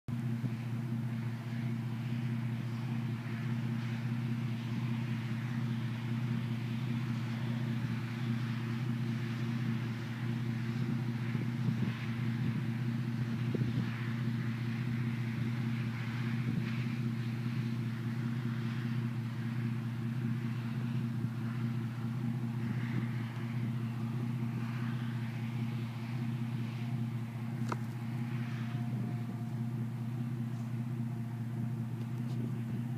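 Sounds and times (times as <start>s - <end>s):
low mechanical hum: 0.1s - 32.9s.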